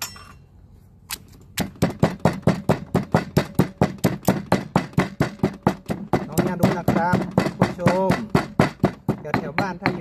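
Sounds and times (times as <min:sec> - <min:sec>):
utensil knocking: 0:01.6 - 0:10.0.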